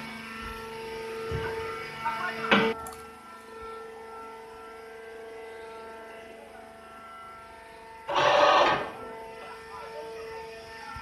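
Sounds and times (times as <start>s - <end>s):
baler machinery whining hum: 0.0s - 11.0s.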